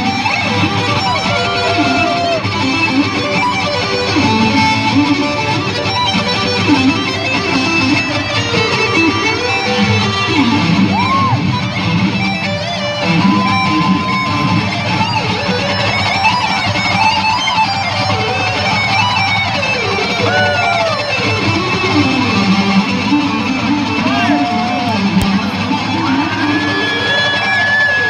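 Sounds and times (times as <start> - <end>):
electric guitar solo: 0.0 - 28.0.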